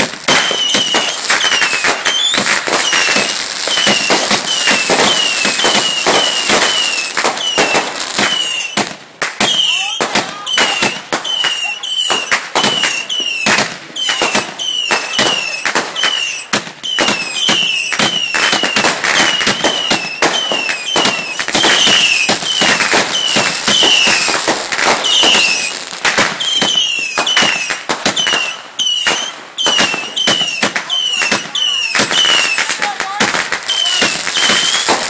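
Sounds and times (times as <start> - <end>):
fireworks bangs and crackles: 0.0 - 35.0
fireworks falling whistles: 0.0 - 35.0.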